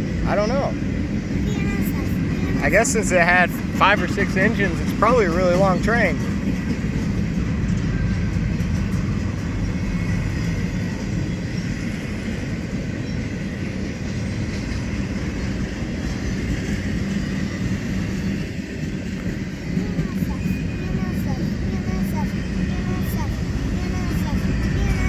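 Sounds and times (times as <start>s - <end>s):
steel train wheels rumbling on rails: 0.0s - 25.0s.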